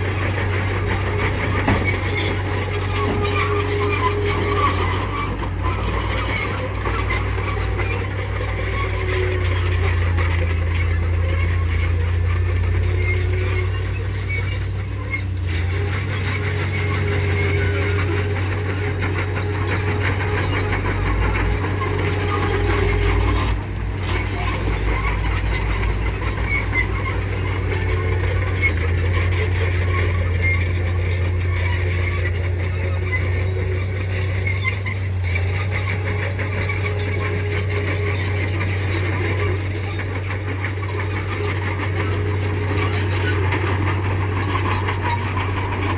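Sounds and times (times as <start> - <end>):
diesel machinery drone: 0.0 - 45.9
steel tracks squeaking: 0.0 - 45.9.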